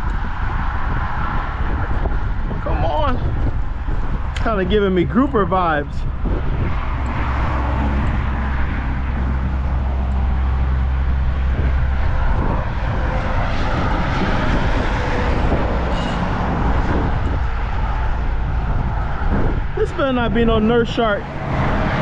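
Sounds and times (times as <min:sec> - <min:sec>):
deep low rumble: 0:00.0 - 0:22.0
road traffic roar: 0:00.0 - 0:22.0
wind: 0:00.0 - 0:22.0.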